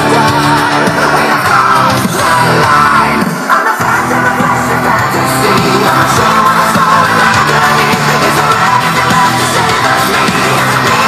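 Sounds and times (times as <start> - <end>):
music with vocals over speakers: 0.0 - 11.0.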